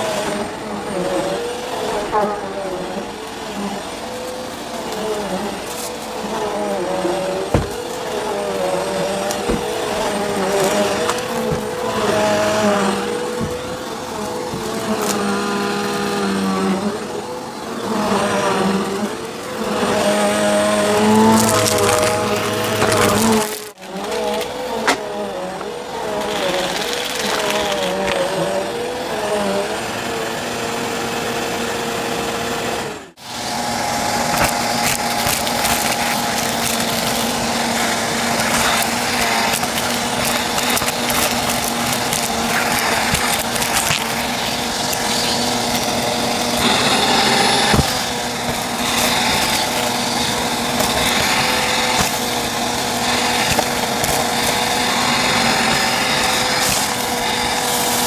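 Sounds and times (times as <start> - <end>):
debris crackling up hose: 0.0 - 29.8, 33.2 - 58.0
vacuum cleaner motor running: 0.0 - 58.0.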